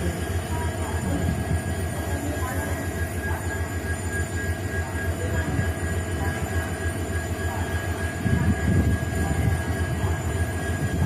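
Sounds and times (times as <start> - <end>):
diesel locomotive engines humming: 0.0 - 11.0.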